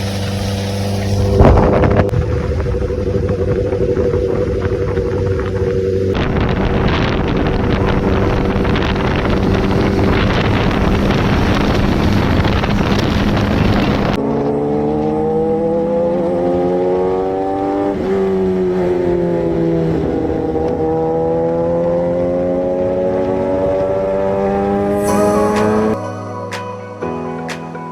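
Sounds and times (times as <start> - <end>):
motorcycle engine roaring: 0.0 - 27.7
wind noise: 0.3 - 26.0.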